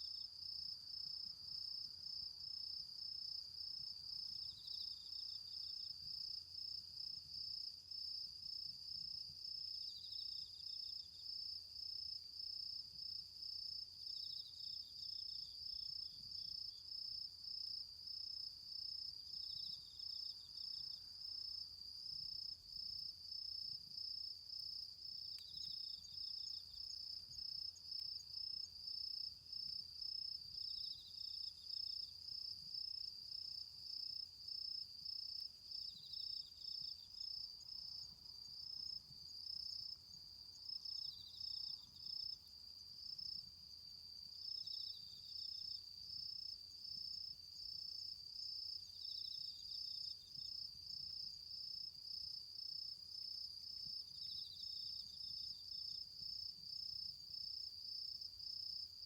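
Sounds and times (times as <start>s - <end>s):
cricket pulsing high chirp: 0.0s - 59.0s.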